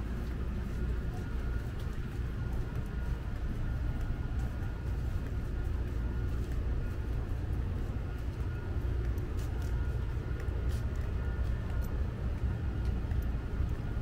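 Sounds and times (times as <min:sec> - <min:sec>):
low urban rumble: 0:00.0 - 0:14.0.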